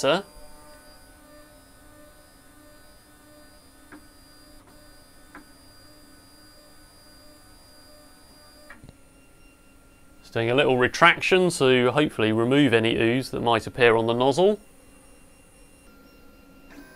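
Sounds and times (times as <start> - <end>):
printer fans and motors humming: 0.0 - 16.9.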